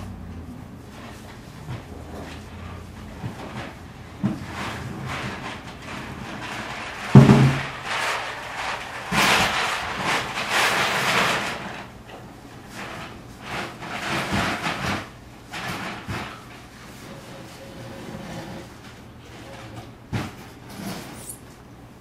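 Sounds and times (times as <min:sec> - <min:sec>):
rocking horse scraping on wood floor: 0:00.0 - 0:21.5.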